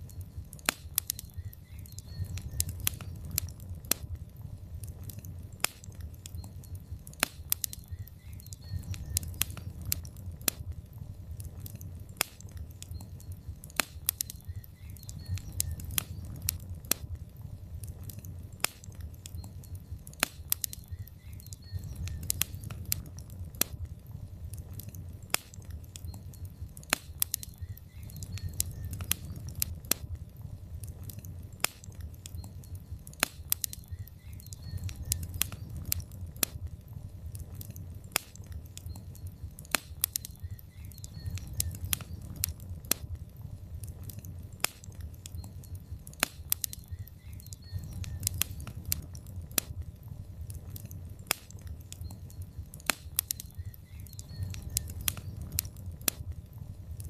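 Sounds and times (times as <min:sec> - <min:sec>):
logs crackling and popping: 0:00.0 - 0:57.0
low rumble of flames: 0:00.0 - 0:57.0.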